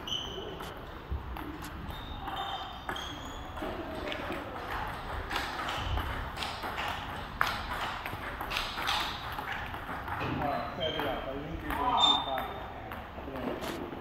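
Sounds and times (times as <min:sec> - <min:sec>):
ping pong balls bouncing on table: 0:00.0 - 0:13.6
ping pong balls hitting paddles: 0:00.0 - 0:14.0.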